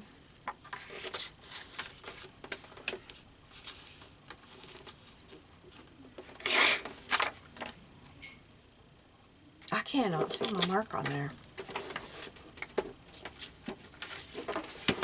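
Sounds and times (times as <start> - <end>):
paper rustling: 0.4 - 7.8, 10.2 - 15.0.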